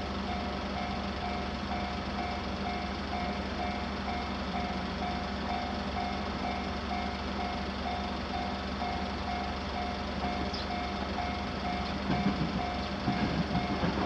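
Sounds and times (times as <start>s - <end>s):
railroad crossing alarm ringing: 0.0s - 14.0s.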